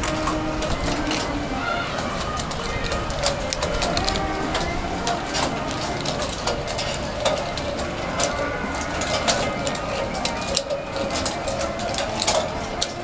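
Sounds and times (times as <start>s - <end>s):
indistinct background voices: 0.0s - 13.0s
sharp clicks and knocks: 0.0s - 13.0s
steady background noise: 0.0s - 13.0s.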